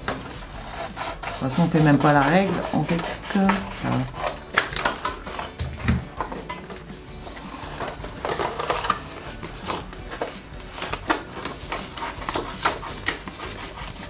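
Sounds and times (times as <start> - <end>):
paper shuffling: 0.0 - 14.0
card rustling: 1.2 - 14.0.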